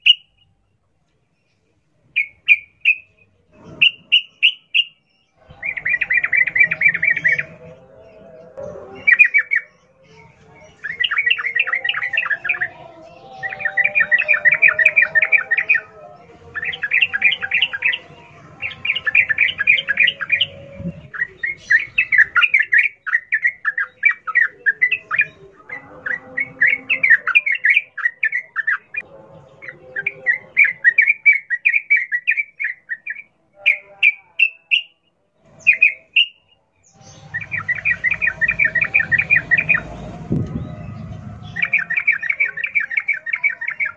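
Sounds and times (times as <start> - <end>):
bulbul singing: 0.0 - 43.9
faint lower bird chatter: 0.0 - 43.9.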